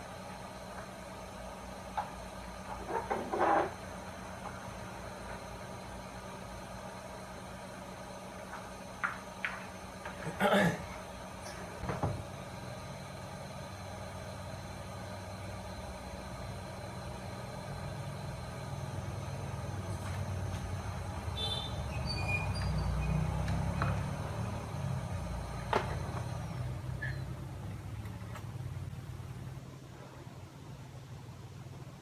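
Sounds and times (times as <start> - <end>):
hot air station blowing: 0.0 - 28.6.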